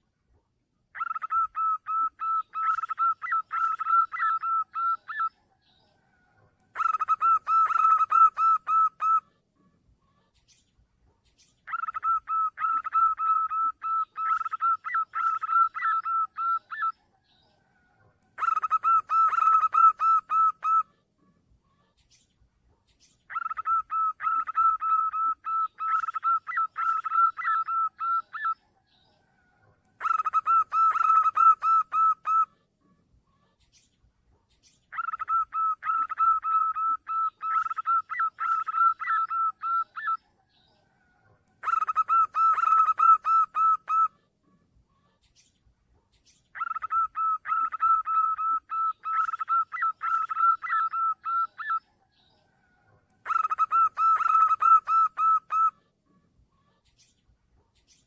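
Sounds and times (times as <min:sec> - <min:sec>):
dove staccato calling: 0:00.9 - 0:05.4, 0:06.0 - 0:09.7, 0:10.4 - 0:17.0, 0:17.7 - 0:20.9, 0:22.0 - 0:28.6, 0:29.2 - 0:32.6, 0:34.5 - 0:40.2, 0:40.8 - 0:44.6, 0:45.2 - 0:55.8.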